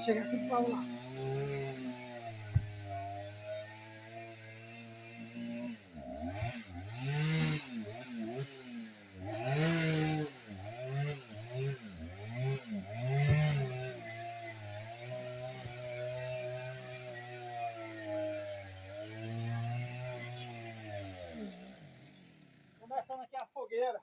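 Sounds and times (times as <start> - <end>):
chainsaw revving cutting wood: 0.0 - 23.4.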